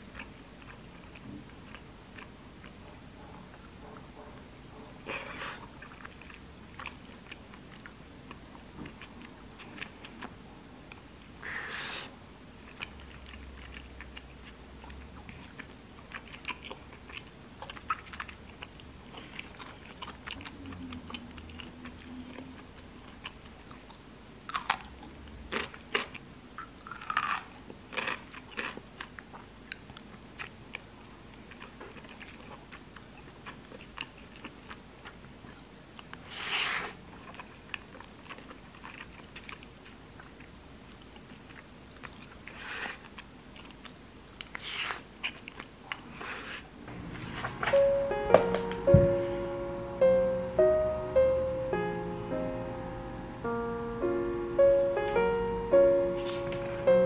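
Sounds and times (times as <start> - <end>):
chewing: 0.0 - 47.6.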